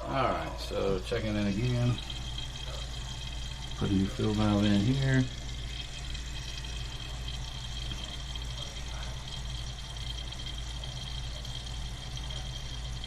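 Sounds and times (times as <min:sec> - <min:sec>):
low hum: 0:00.0 - 0:13.0
water hissing into toilet tank: 0:00.0 - 0:13.0.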